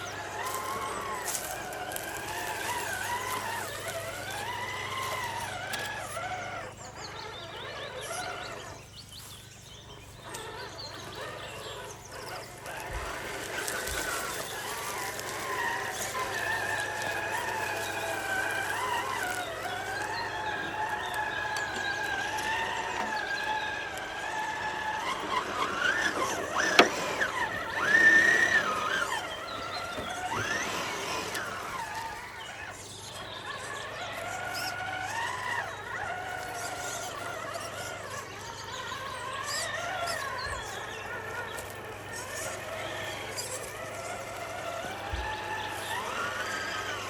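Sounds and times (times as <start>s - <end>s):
toy car electric motor whining: 0.0s - 47.0s.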